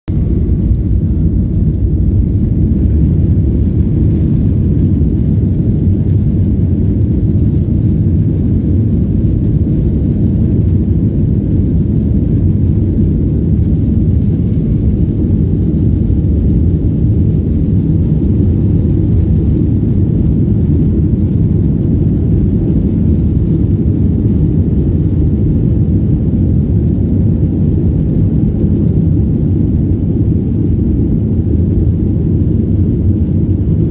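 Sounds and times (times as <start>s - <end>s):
jet engines deep rumble: 0.0s - 33.9s.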